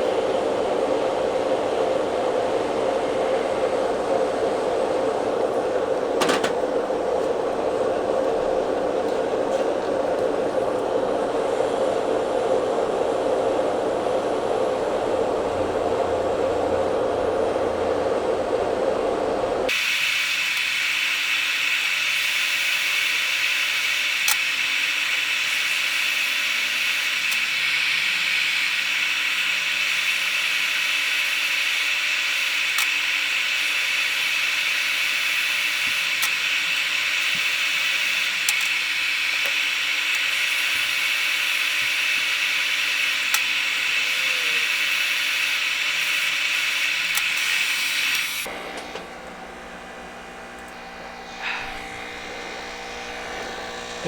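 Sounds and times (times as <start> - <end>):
hot-air station blowing: 0.0 - 54.0.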